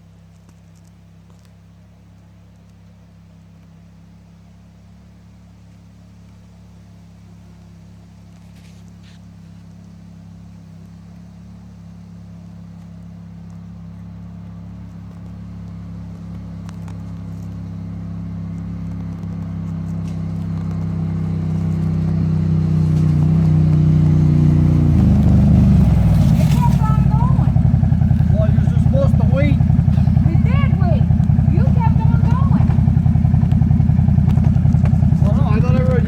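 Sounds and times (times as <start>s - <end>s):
four-wheeler engine approaching: 0.0s - 36.0s.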